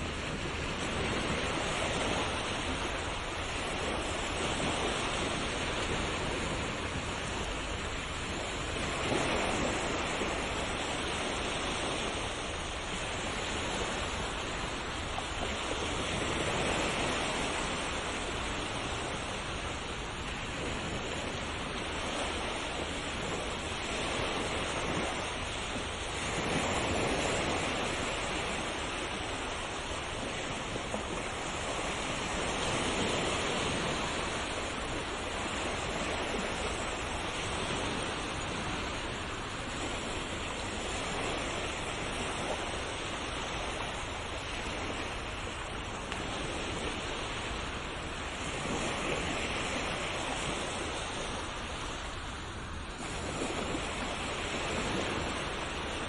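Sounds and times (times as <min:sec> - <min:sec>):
ocean waves on shore: 0:00.0 - 0:56.0.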